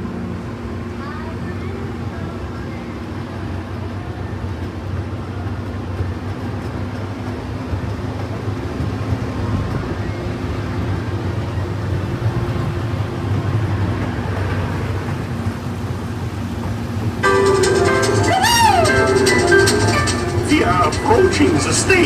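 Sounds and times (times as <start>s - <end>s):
ride train rumbling on track: 0.0s - 22.0s.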